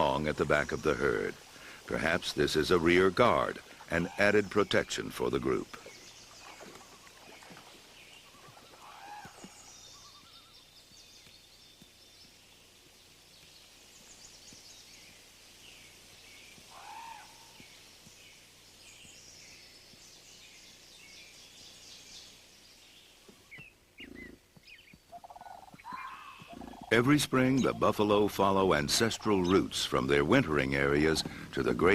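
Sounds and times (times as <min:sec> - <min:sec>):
birds chirping and calling: 0:00.0 - 0:12.4, 0:13.3 - 0:31.9.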